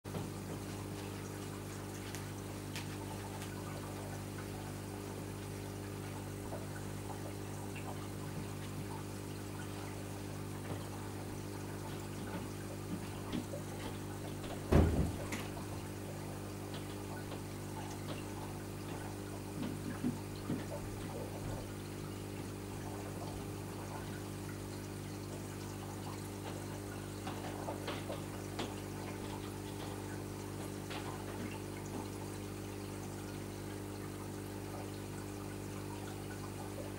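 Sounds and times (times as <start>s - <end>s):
aquarium water pumps humming: 0.0s - 36.9s
trickling water: 0.1s - 36.9s.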